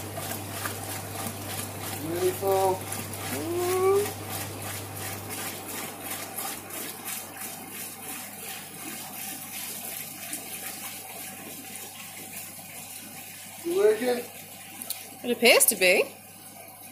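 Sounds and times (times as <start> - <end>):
water overflowing: 0.0 - 16.9
water pouring into plastic bucket: 0.0 - 16.9.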